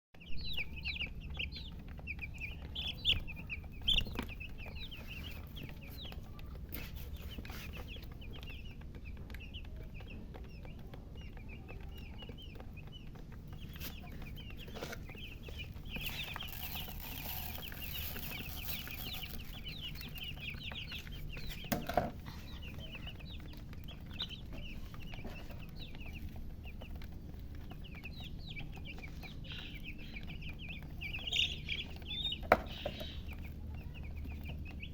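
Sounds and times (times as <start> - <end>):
baby chicks peeping: 0.2 - 34.9.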